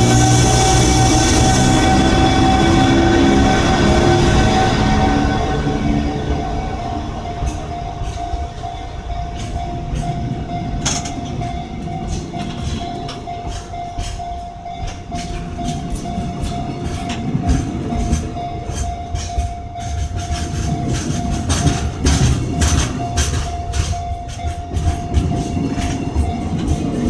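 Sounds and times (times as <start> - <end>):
steady whine: 0.0 - 27.0
train rumble: 0.0 - 27.0
train wheels clacking over rail joints: 0.0 - 27.0.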